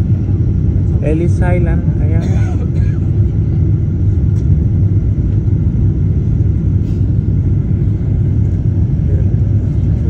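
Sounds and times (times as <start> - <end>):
jet airliner cabin rumble: 0.0 - 10.0.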